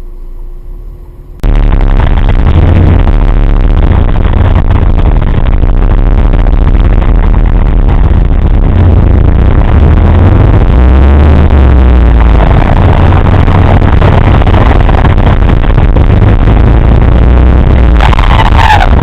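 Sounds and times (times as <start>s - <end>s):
car engine: 0.0s - 19.0s
deep hum: 0.0s - 19.0s
road noise: 0.0s - 19.0s.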